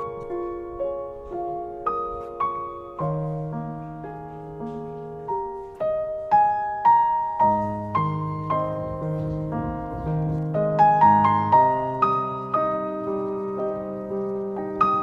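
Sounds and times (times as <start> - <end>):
gentle solo piano melody: 0.0 - 15.0.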